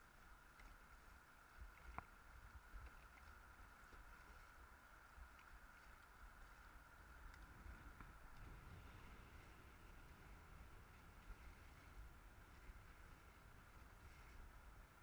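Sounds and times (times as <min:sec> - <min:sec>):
faint wind rumble: 0:00.0 - 0:15.0
paddling water noise: 0:00.0 - 0:15.0.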